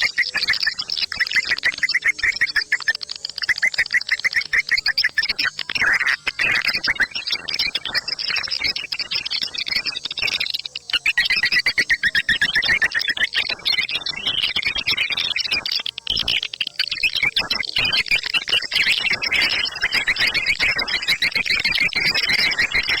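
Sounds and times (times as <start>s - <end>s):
bird call chorus of chirps: 0.0s - 23.0s.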